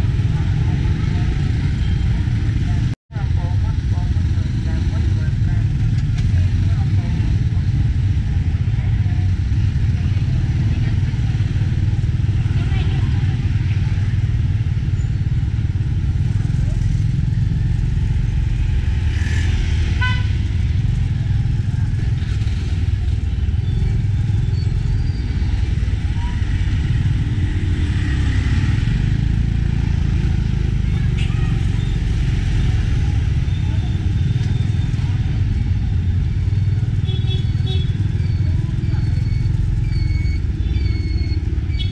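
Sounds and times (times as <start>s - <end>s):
engine and road rumble: 0.0s - 41.9s
motorbikes passing: 0.0s - 41.9s.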